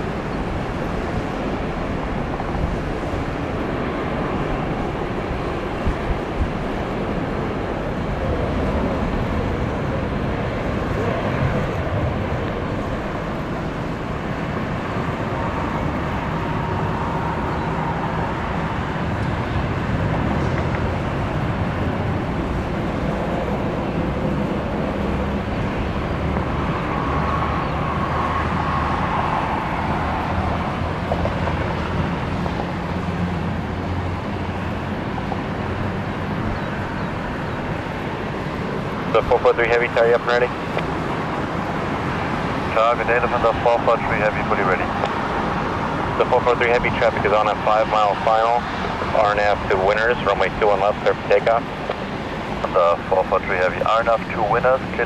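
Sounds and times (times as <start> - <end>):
faint engine whine: 0.0 - 55.0
jet engines rumbling: 0.0 - 55.0.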